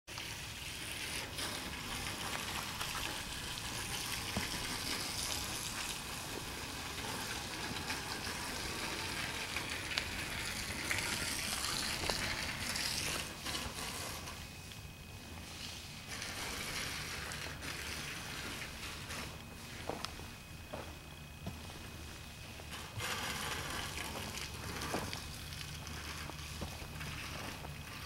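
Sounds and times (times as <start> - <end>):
rustling hiss: 0.1 - 28.0.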